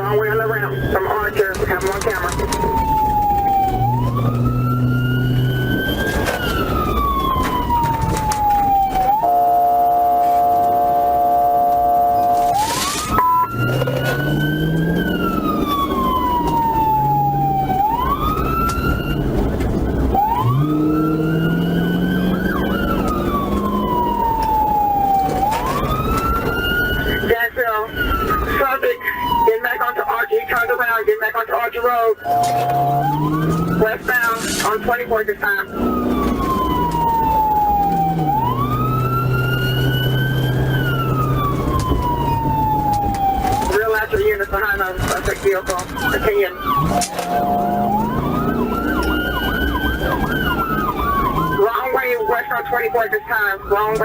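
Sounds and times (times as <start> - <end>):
car engine and road noise: 0.0 - 54.0
police siren wailing: 0.0 - 54.0.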